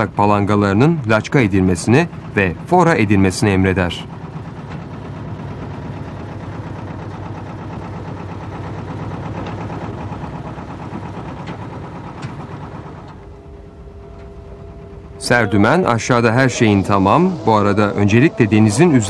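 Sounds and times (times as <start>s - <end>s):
engine idling: 0.0s - 19.0s
thin steady hum: 0.0s - 19.0s.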